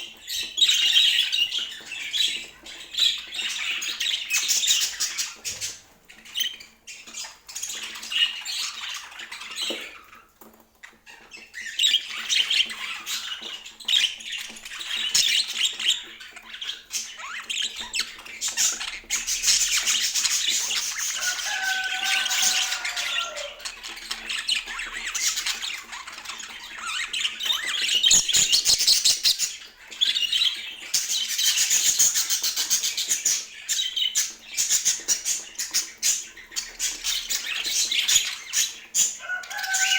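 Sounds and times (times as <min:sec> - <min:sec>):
budgerigars warbling and chattering: 0:00.0 - 0:39.9.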